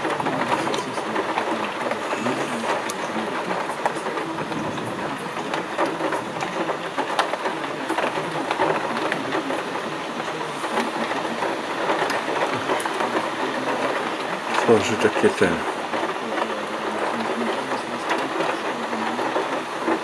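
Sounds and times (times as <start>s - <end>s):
heavy rain on a window: 0.0s - 20.0s.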